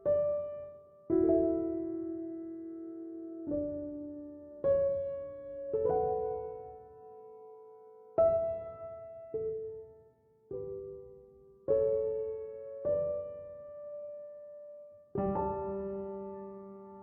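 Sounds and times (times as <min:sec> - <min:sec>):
gentle solo piano: 0:00.0 - 0:17.0.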